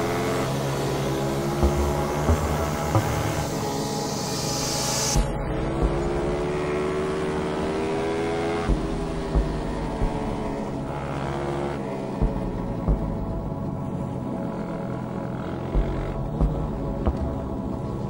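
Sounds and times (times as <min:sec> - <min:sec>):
motorcycle engine accelerating: 0:00.0 - 0:18.0
low thumps: 0:01.3 - 0:14.6, 0:15.7 - 0:18.0.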